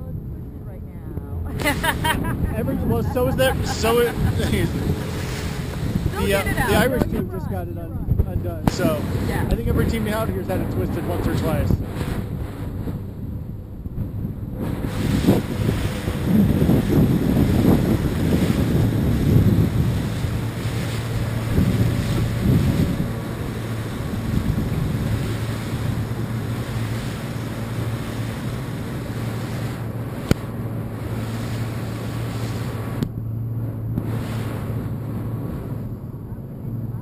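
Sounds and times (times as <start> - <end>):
boat engine humming: 0.0 - 37.0
choppy water: 0.0 - 37.0
wind buffeting microphone: 0.0 - 37.0.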